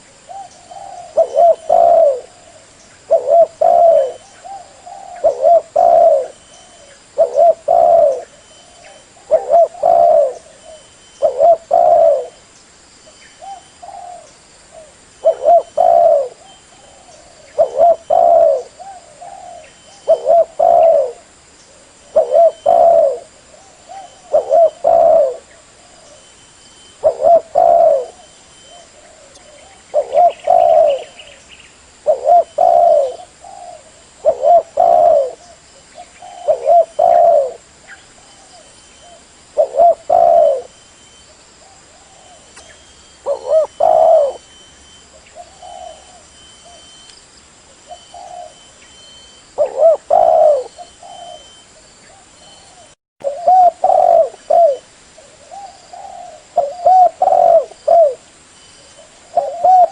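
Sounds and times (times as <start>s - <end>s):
dove cooing: 0.0s - 12.4s, 13.4s - 31.4s, 32.0s - 47.0s, 47.7s - 59.9s.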